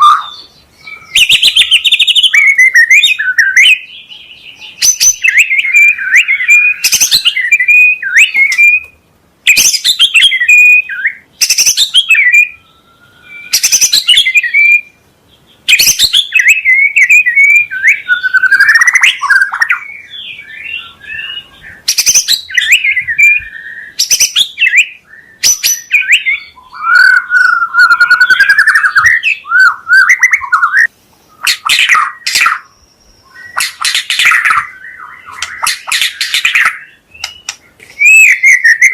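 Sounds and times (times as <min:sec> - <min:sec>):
songbird whistling and warbling: 0:00.0 - 0:38.9.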